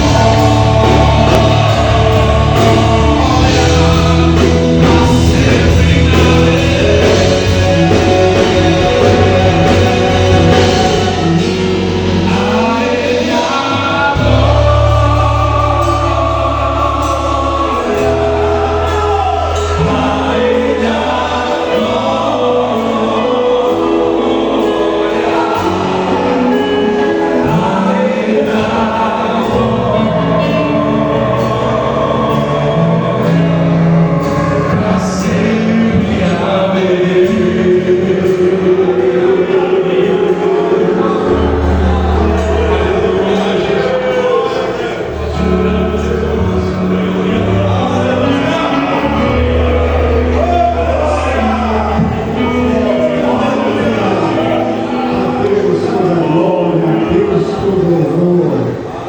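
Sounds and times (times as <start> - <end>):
group singing worship song: 0.0 - 59.0
long-held bass notes: 0.0 - 59.0.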